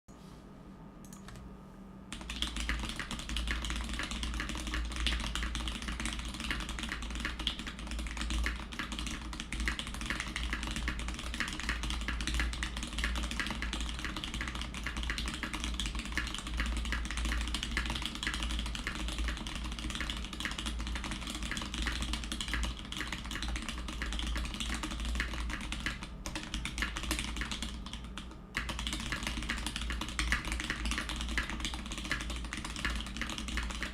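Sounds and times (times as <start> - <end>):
mechanical keyboard typing: 2.1 - 33.9.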